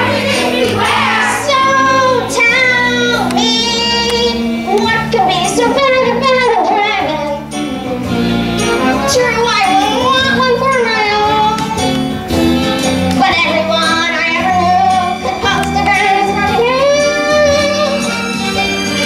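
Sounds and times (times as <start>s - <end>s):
child singing: 0.0s - 7.5s, 8.9s - 11.8s, 13.2s - 18.1s
instrumental accompaniment: 0.0s - 19.0s.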